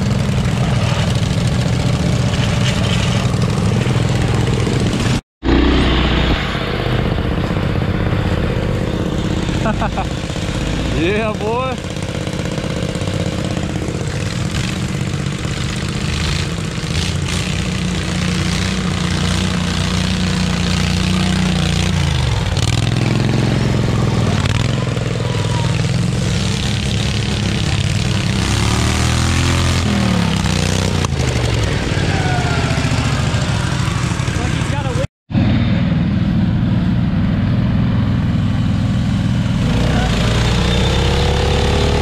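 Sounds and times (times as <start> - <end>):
small tractor engines under load: 0.0 - 42.0.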